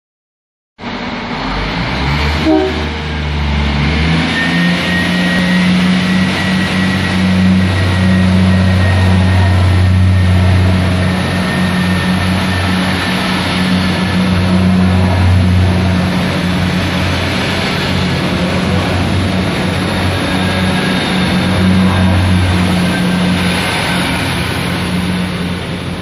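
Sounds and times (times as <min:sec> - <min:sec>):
diesel train engines running: 0:00.8 - 0:26.0.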